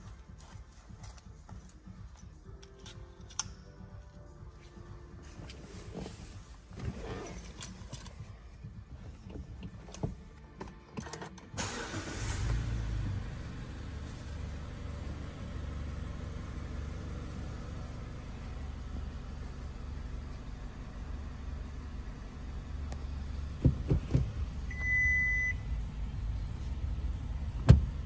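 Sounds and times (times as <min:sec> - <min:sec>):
car engine starting and idling: 0:05.2 - 0:28.0.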